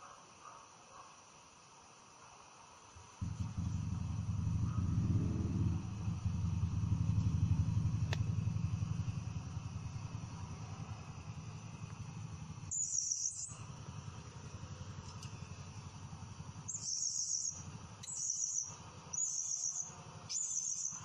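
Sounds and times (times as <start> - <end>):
steady low hum: 3.0 - 21.0.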